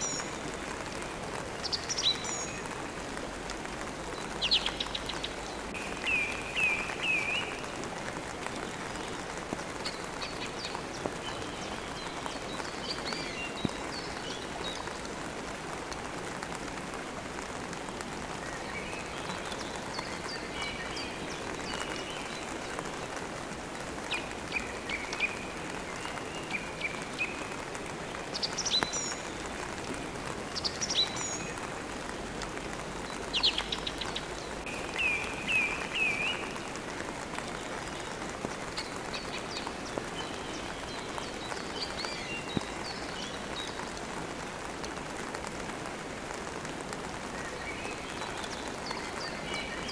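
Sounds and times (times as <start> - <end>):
rain falling: 0.0 - 49.9.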